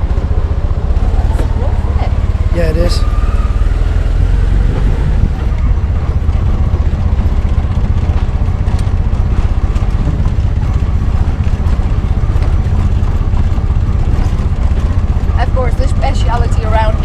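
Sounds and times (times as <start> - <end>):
vehicle motor rumble: 0.0 - 17.0.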